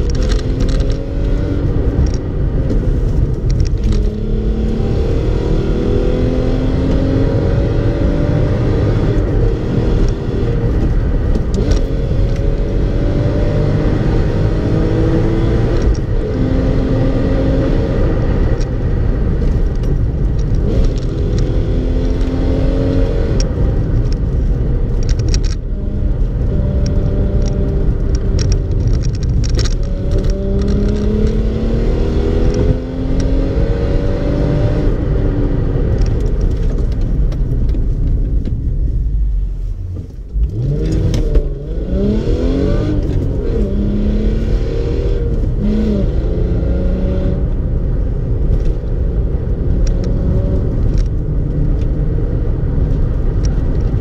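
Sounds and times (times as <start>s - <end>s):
car engine accelerating: 0.0s - 54.0s
road rumble: 0.0s - 54.0s.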